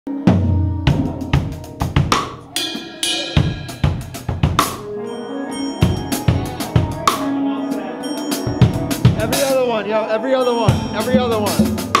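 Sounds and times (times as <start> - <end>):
drum kit beat: 0.1 - 12.0
bright pitched notes: 1.6 - 12.0.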